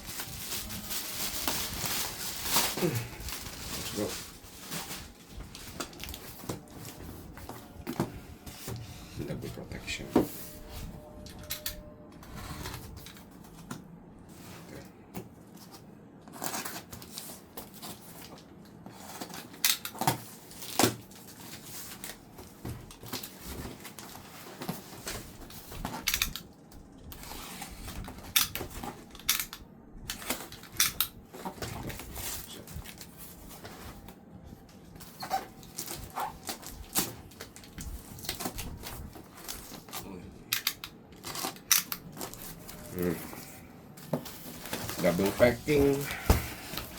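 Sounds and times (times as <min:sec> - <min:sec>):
packaging rustling and crinkling: 0:00.0 - 0:46.9.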